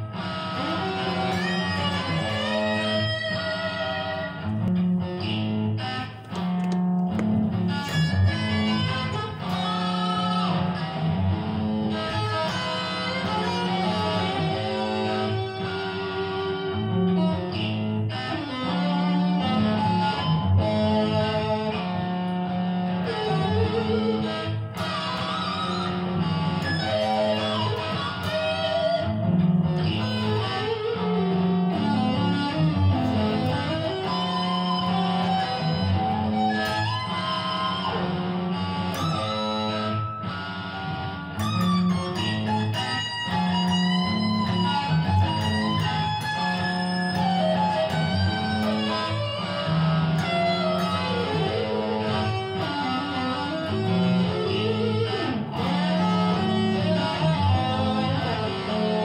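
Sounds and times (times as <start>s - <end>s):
electric guitar blues: 0.0s - 59.0s.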